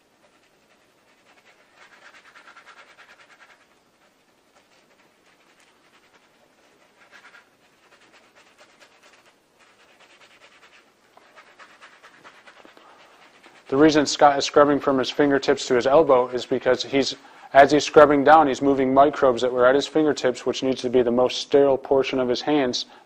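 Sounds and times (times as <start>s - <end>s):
scrub brush scratching skin: 0.0s - 21.0s.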